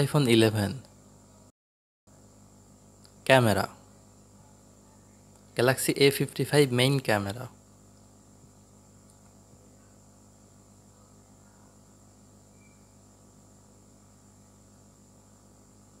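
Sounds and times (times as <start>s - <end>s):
faint electrical hum: 0.0s - 1.5s, 2.1s - 16.0s.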